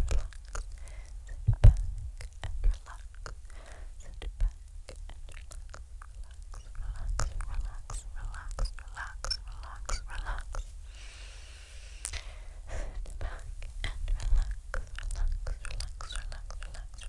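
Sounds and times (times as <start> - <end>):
wet mouth clicks: 0.0 - 10.7, 12.0 - 12.2, 13.0 - 17.0
breathy whispering: 2.2 - 17.0.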